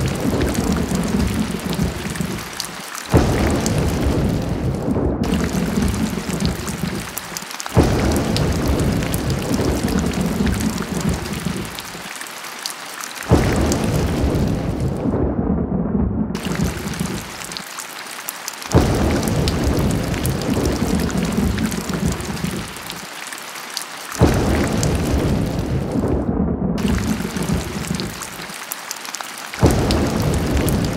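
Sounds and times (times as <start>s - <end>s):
rolling thunder: 0.0s - 7.2s, 7.8s - 11.8s, 13.3s - 17.6s, 18.7s - 22.8s, 24.2s - 28.4s, 29.6s - 30.9s
heavy rain: 0.0s - 15.2s, 16.4s - 30.9s.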